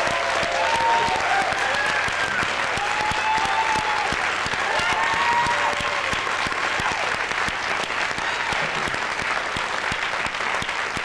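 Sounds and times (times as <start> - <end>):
large audience clapping: 0.0 - 11.0
people cheering: 0.0 - 11.0.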